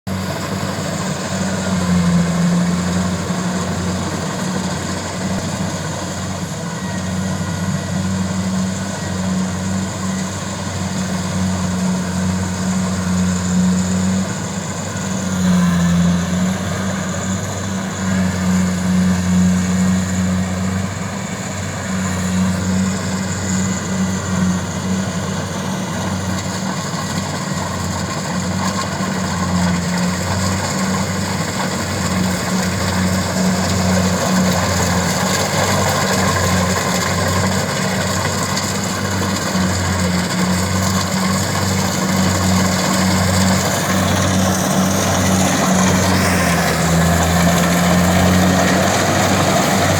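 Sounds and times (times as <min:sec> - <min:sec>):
combine harvester engine drone: 0:00.0 - 0:49.9.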